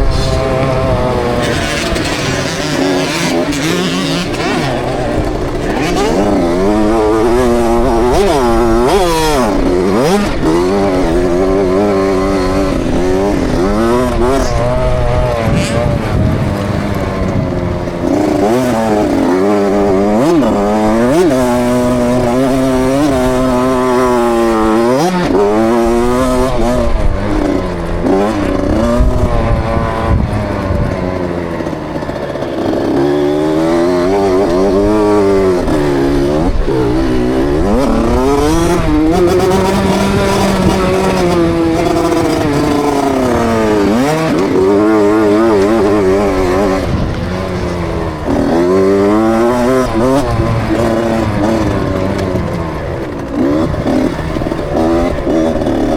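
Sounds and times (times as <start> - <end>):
two-stroke motorcycle engine revving: 0.0 - 55.9.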